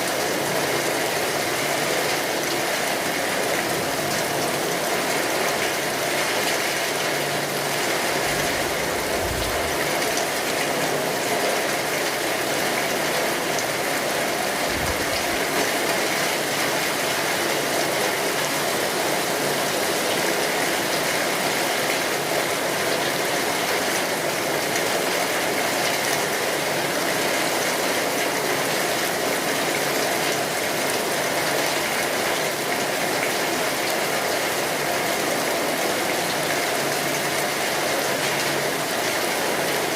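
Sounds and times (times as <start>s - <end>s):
rain drumming on a tin roof: 0.0s - 39.9s.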